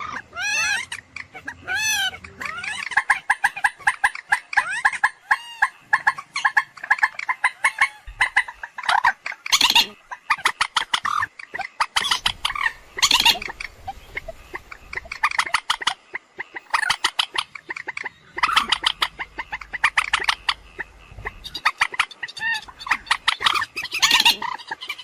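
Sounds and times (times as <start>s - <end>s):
moorhen calling: 0.0s - 25.0s.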